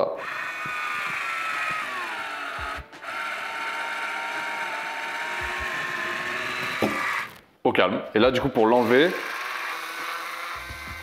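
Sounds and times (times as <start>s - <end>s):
electric corkscrew motor whirring: 0.0s - 7.4s, 8.5s - 11.0s.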